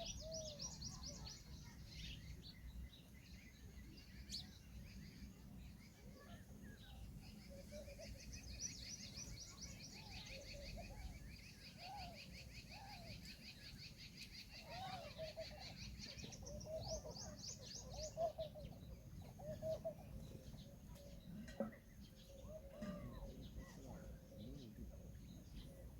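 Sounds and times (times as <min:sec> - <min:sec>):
faint outdoor background noise: 0:00.0 - 0:25.9
peahen calling softly: 0:04.2 - 0:25.9.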